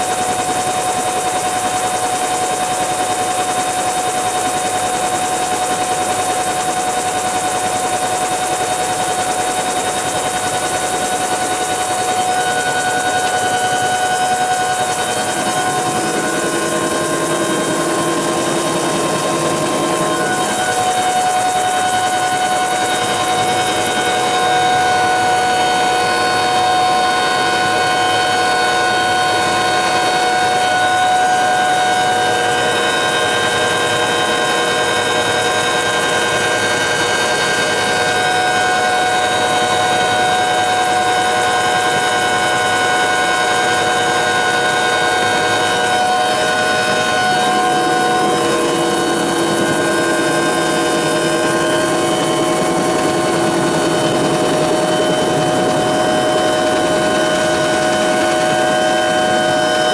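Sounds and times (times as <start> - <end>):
helicopter rotor and engine noise: 0.0 - 59.9
high-pitched whine: 9.3 - 39.7, 41.8 - 59.9.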